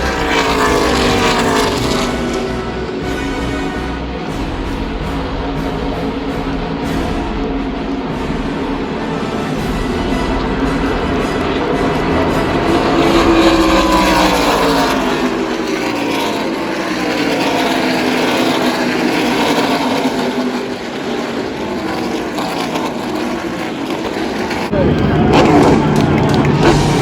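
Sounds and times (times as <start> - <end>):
race truck engine passing by: 0.0 - 27.0.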